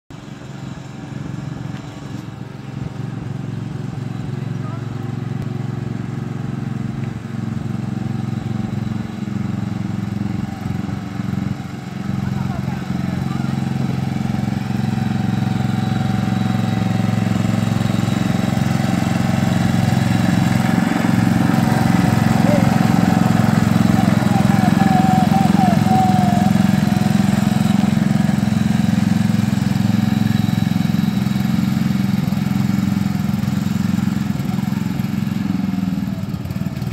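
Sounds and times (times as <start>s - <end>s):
riding lawnmower engine running: 0.1s - 36.9s.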